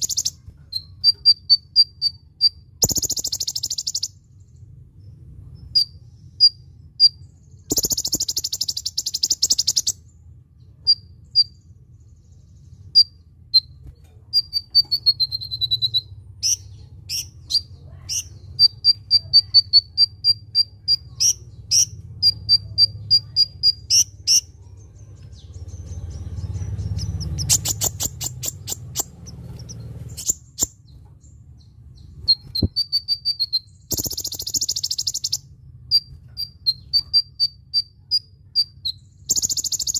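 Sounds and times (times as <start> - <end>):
buzzy bird trills: 0.0 - 4.6, 5.6 - 10.2, 10.8 - 39.9
bird singing high chirps: 0.0 - 39.9
steady low hum: 0.0 - 39.9.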